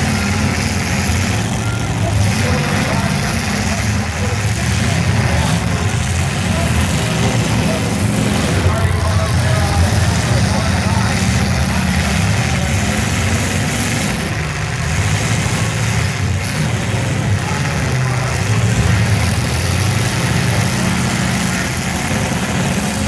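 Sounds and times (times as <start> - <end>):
cars ramming each other: 0.0 - 23.0
demolition derby car engines: 0.0 - 23.0.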